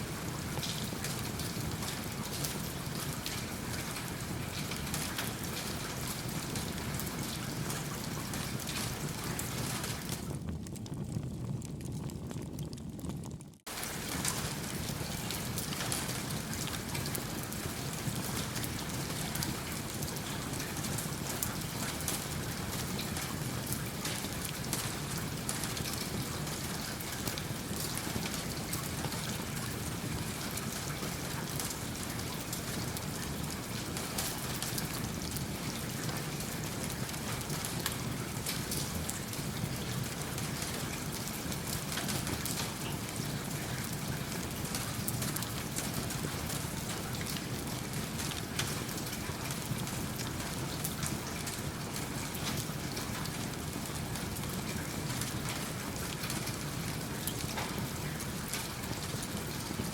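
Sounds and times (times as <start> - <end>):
fireplace fire crackling: 0.0 - 59.9
steady rain falling: 0.0 - 59.9.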